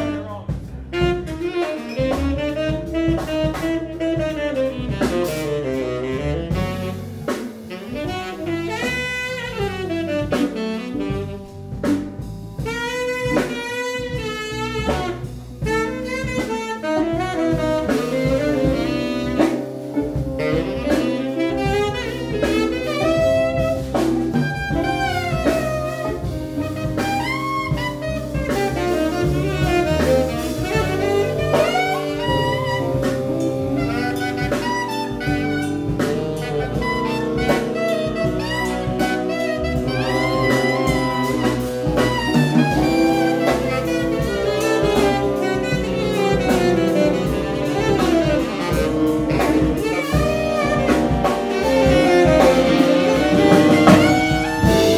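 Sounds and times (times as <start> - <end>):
bass: 0.0 - 54.9
drum kit: 0.0 - 54.9
tenor saxophones playing: 0.0 - 54.9
electric guitar: 7.3 - 54.9.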